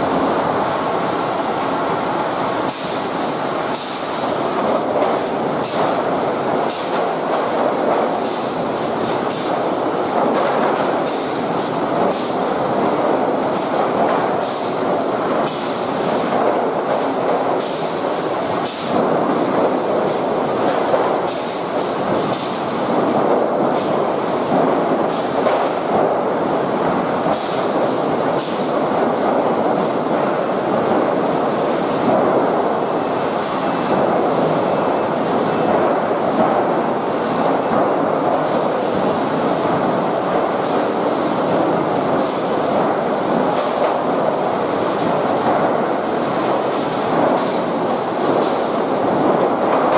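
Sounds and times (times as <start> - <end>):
conveyor machinery rattling: 0.0 - 49.9.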